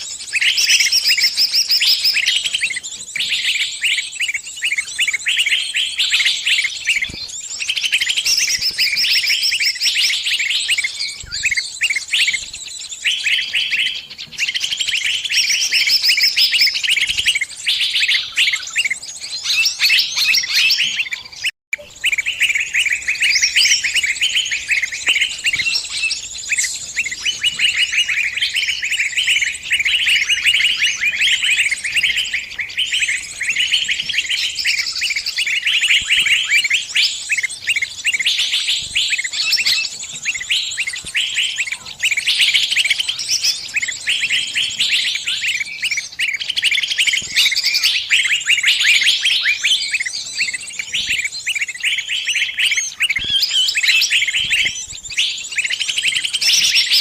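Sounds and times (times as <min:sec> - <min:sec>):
bird distress calls: 0:00.0 - 0:57.0.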